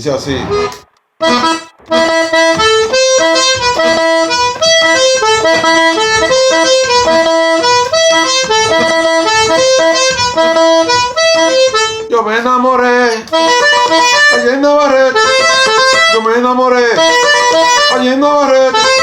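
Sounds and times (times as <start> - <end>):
button accordion melody: 0.0 - 19.0.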